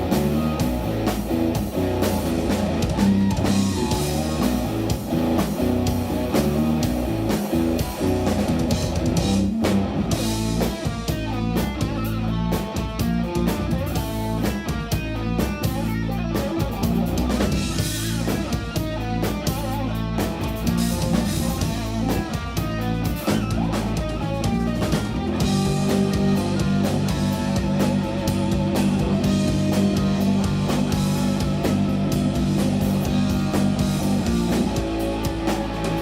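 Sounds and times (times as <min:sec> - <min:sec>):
drum kit hits: 0:00.0 - 0:36.0
jazz-rock trio playing: 0:00.0 - 0:36.0.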